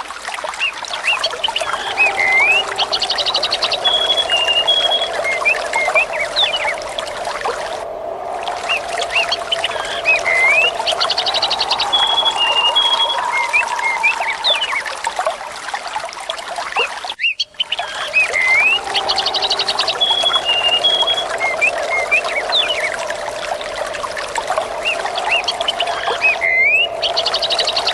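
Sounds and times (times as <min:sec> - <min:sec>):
trickling water: 0:00.0 - 0:27.9
birds chirping and whistling: 0:01.0 - 0:15.0, 0:17.2 - 0:27.9.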